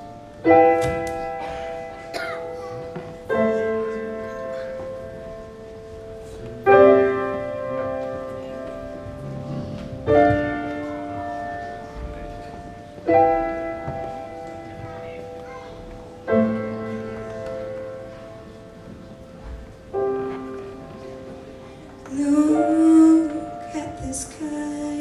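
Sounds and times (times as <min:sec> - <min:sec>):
slow piano chords: 0:00.0 - 0:25.0.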